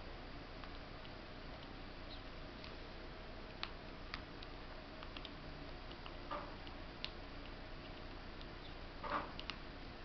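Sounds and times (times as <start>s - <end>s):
squirrel chewing corn: 0.5s - 9.9s.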